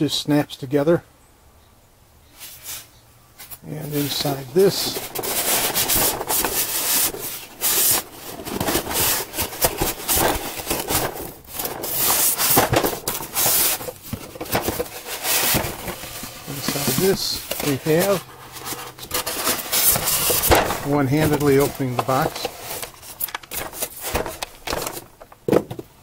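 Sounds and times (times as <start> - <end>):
cardboard and foam packing scraping: 3.4 - 25.6.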